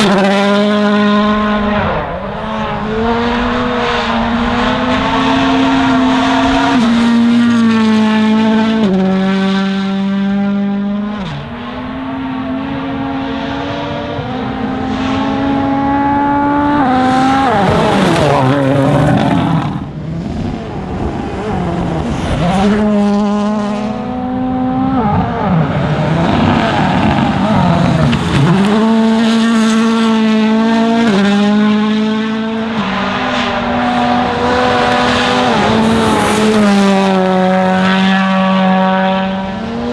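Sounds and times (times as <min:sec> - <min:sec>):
rally car engine upshifting: 0:00.0 - 0:39.9.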